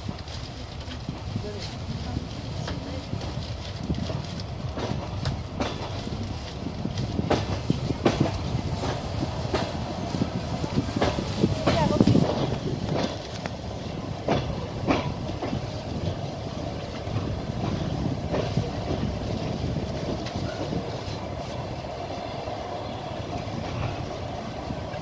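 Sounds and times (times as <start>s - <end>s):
train rumbling on track: 0.0s - 25.0s
wheels clacking over rail joints: 0.0s - 25.0s.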